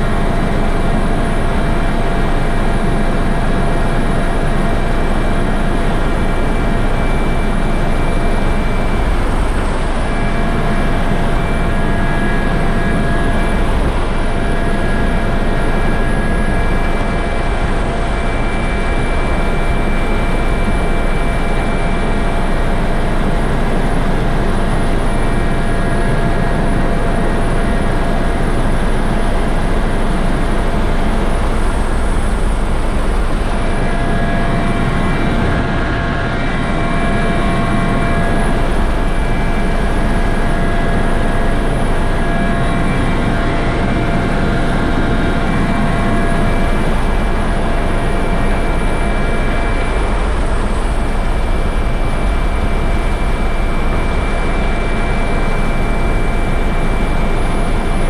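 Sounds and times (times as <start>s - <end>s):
constant high whine: 0.0s - 58.0s
helicopter engine and rotor rumble: 0.0s - 58.0s.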